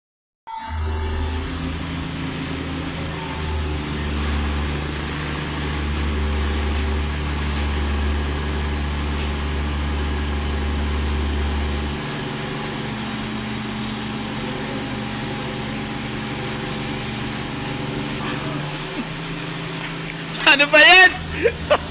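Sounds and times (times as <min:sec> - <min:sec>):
engine running: 0:00.6 - 0:21.9.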